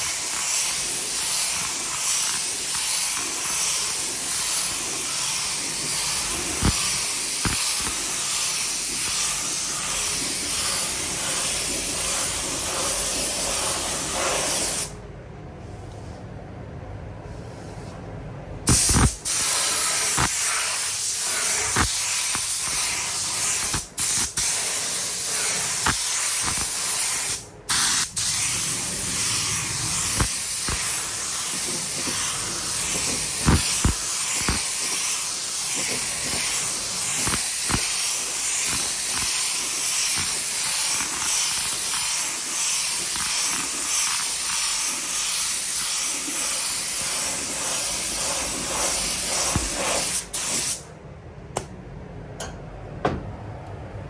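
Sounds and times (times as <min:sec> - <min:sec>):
paint spray gun hissing: 0:00.0 - 0:15.0, 0:18.7 - 0:50.8.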